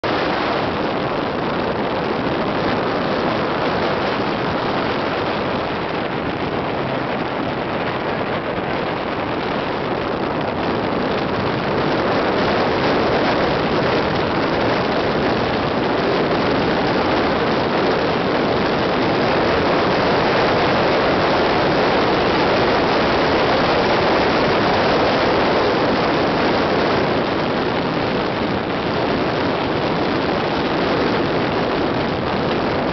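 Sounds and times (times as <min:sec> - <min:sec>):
wind and road noise: 0:00.0 - 0:32.9.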